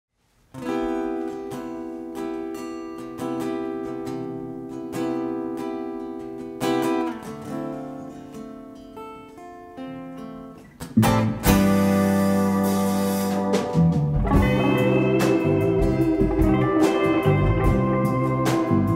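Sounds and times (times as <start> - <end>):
acoustic guitar playing: 0.5 - 18.9.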